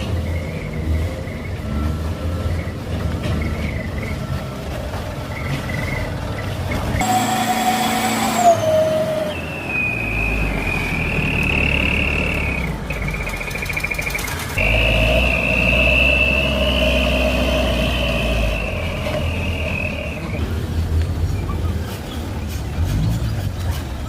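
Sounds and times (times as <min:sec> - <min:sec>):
heavy engine rumble and whine: 0:00.0 - 0:24.0.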